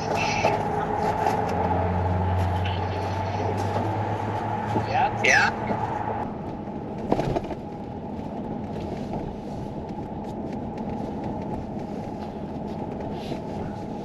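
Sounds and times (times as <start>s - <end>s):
road rumble and rattle: 0.0s - 14.0s.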